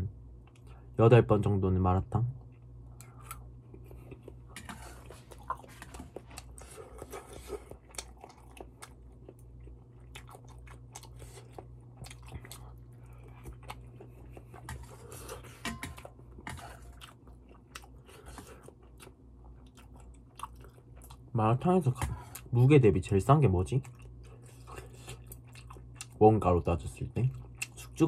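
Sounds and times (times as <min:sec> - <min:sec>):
person chewing food: 0:02.4 - 0:21.3, 0:22.0 - 0:22.5, 0:23.8 - 0:26.2, 0:27.3 - 0:28.0.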